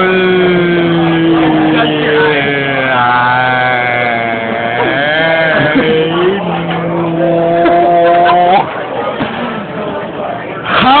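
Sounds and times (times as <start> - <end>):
people moaning together: 0.0 - 8.9.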